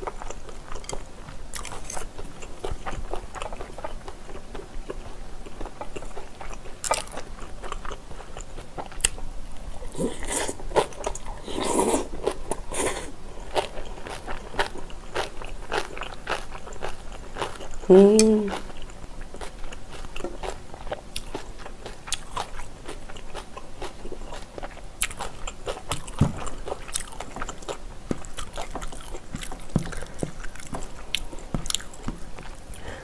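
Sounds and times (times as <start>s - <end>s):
woman chewing with mouth clicks: 0.0s - 33.0s.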